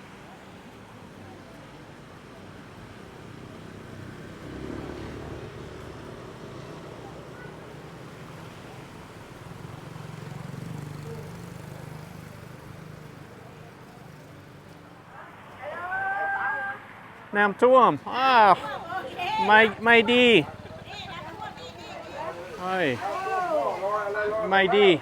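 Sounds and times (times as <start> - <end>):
street noise: 0.0 - 25.0
vehicle engines passing: 0.0 - 25.0.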